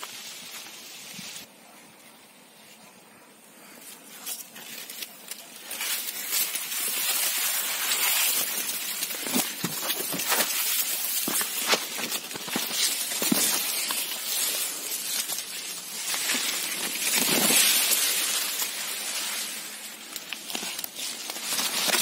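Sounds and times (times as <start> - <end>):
leaves rustling and crackling: 0.0 - 3.0, 3.6 - 22.0.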